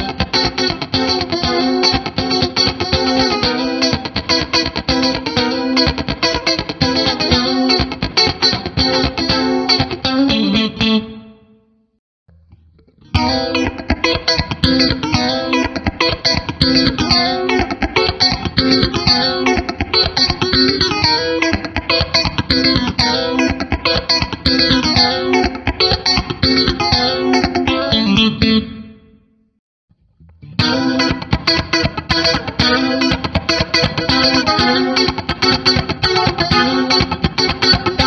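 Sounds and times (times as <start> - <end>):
electric guitar chord strumming: 0.0 - 11.4, 12.3 - 29.0, 30.2 - 38.0.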